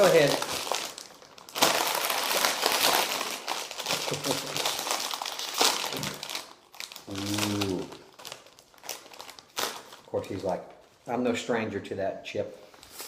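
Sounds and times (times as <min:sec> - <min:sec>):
plastic chip bag crackling: 0:00.0 - 0:10.6.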